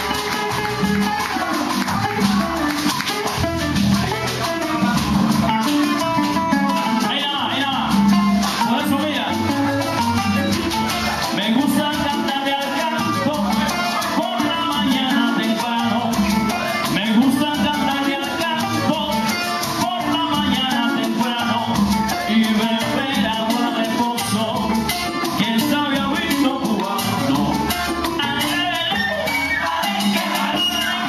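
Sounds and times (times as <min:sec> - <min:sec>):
band playing: 0:00.0 - 0:31.0
maracas shaking: 0:00.0 - 0:31.0.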